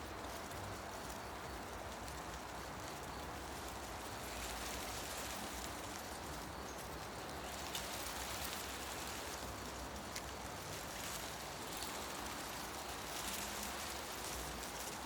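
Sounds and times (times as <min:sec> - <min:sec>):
leaves rustling in wind: 0:00.0 - 0:15.0
faint ticks: 0:00.1 - 0:15.0.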